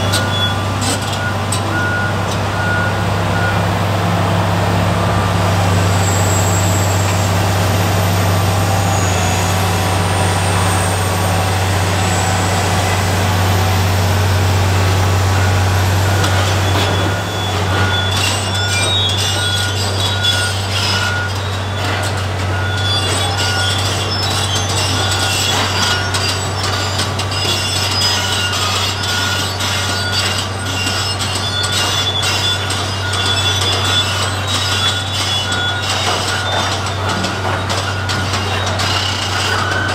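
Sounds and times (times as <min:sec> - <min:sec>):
crawler tracks clanking and squealing: 0:00.0 - 0:39.9
excavator diesel engine droning: 0:00.0 - 0:39.9.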